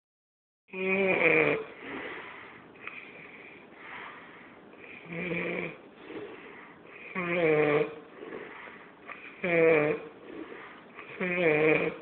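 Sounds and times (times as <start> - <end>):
person snoring: 0.7 - 3.3, 4.8 - 12.0.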